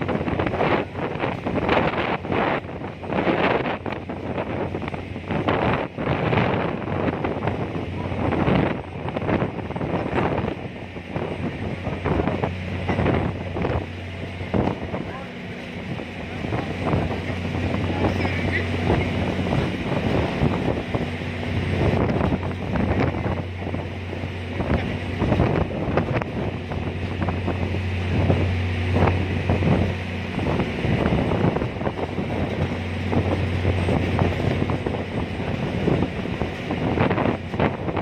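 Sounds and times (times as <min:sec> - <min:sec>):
ferry engine drone: 0:00.0 - 0:38.0
wind buffeting microphone: 0:00.0 - 0:38.0.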